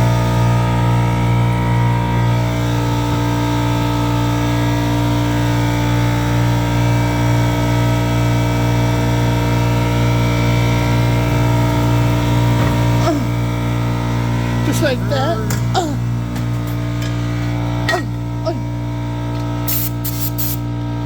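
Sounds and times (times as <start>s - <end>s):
air compressor running: 0.0s - 21.0s.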